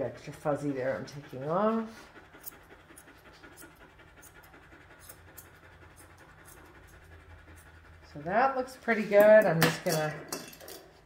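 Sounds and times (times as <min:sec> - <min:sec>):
dog panting: 0:00.0 - 0:09.9.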